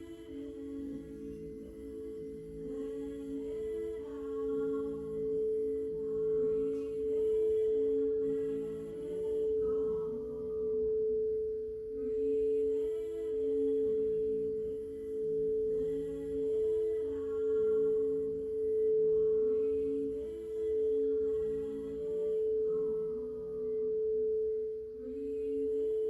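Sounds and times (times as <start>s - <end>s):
singing bowl ringing: 0.0s - 26.0s.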